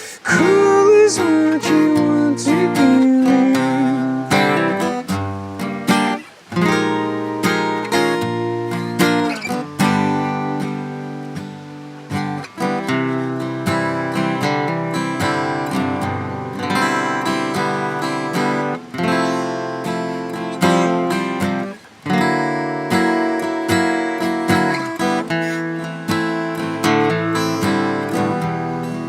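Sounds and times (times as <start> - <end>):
acoustic guitar strummed and picked: 0.0 - 29.0.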